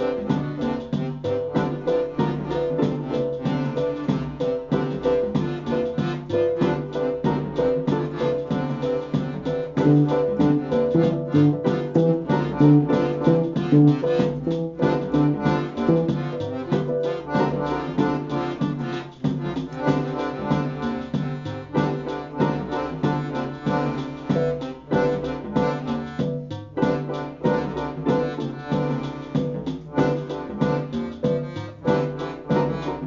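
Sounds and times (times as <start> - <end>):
accordions: 0.0 - 33.0
electronic beat: 0.0 - 33.0
keyboard notes: 0.0 - 33.0.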